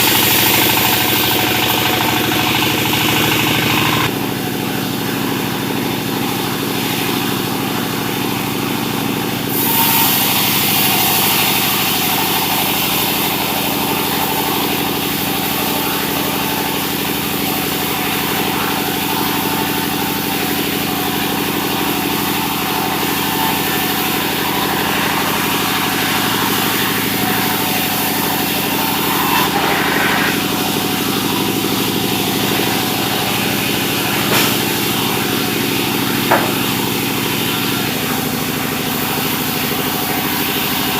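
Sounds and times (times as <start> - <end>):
loud high-pitched machine noise: 0.0 - 40.9
sawmill engine running: 0.0 - 40.9.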